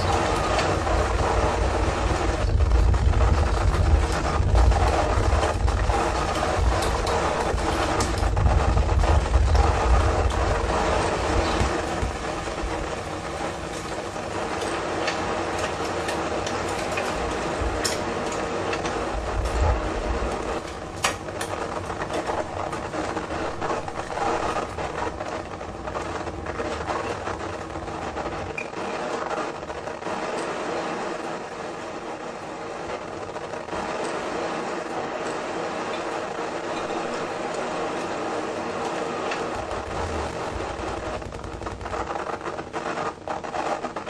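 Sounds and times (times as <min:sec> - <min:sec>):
heavy low rumble: 0:00.0 - 0:28.4, 0:34.6 - 0:44.0
noise drone: 0:00.0 - 0:44.0.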